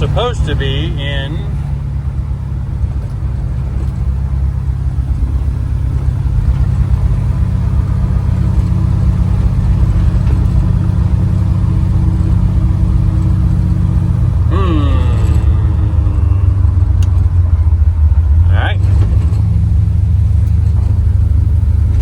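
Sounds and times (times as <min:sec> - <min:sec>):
pickup engine drone: 0:00.0 - 0:22.0
road noise: 0:00.0 - 0:22.0.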